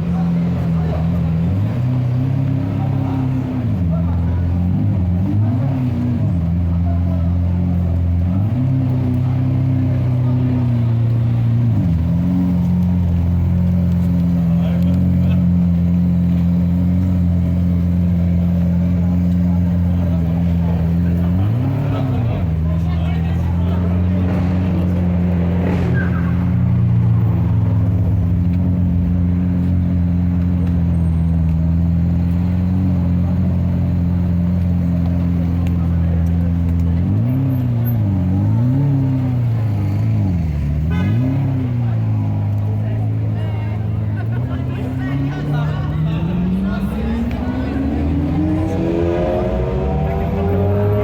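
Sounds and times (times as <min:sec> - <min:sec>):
sports car engine running: 0:00.0 - 0:51.0.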